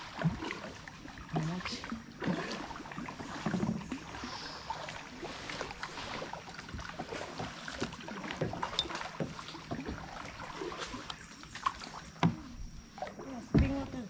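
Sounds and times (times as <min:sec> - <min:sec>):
paddle splashing water: 0:00.0 - 0:14.0.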